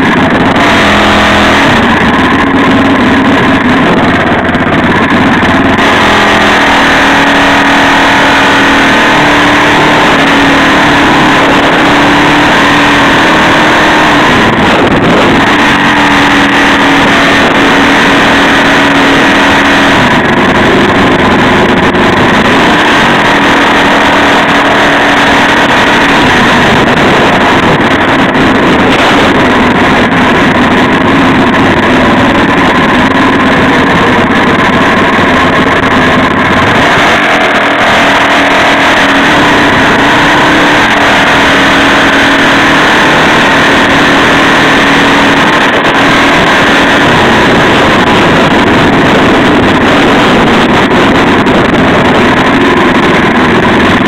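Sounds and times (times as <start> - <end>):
rushing wind noise: 0.0 - 54.0.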